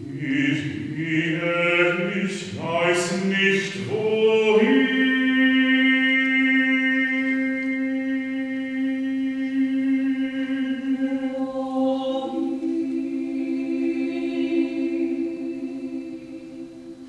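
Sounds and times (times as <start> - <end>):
vocal ensemble chanting: 0.0 - 17.0.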